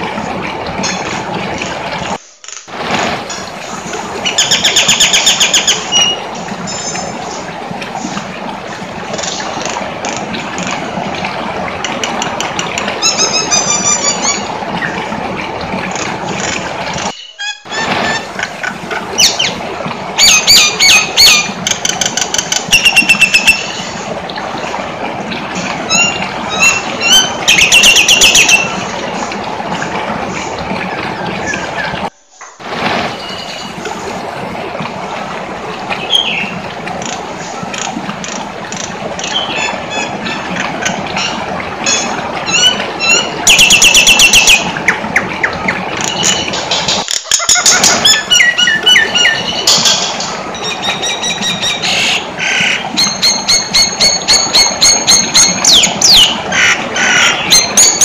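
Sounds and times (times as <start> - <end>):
steady background noise: 0.0 - 58.0.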